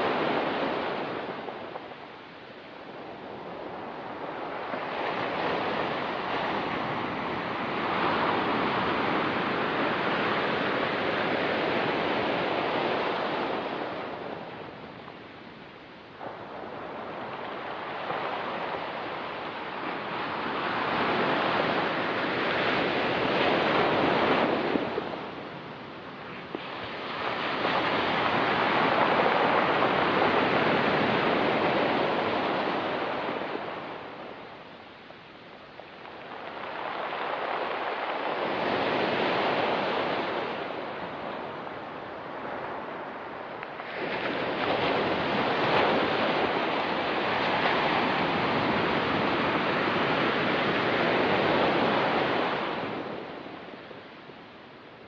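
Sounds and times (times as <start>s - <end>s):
ocean waves breaking on rocks: 0.0s - 54.4s.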